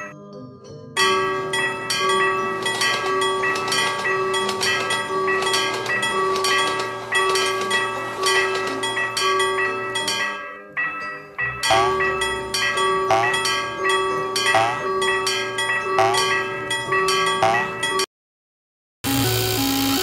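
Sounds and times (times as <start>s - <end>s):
railroad crossing bells ringing: 0.9s - 18.1s.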